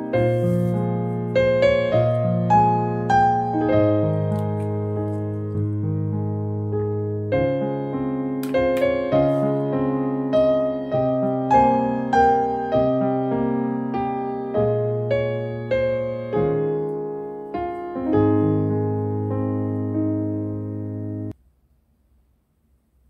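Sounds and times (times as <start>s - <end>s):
gentle solo piano: 0.0s - 21.4s.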